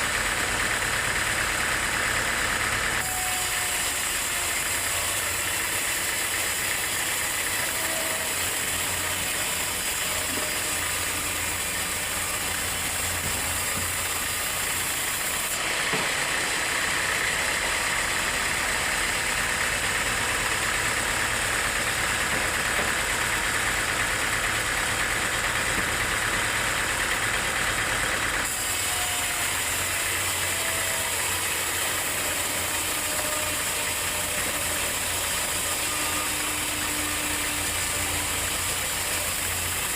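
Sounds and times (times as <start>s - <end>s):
sawmill machinery running: 0.0s - 39.9s
saw blade hissing through log: 3.0s - 23.8s, 28.4s - 39.9s.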